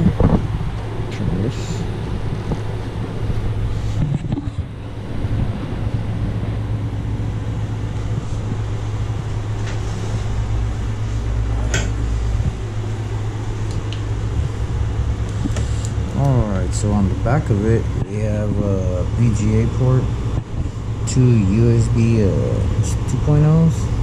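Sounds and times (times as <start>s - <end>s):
computer fans humming: 0.0s - 24.0s.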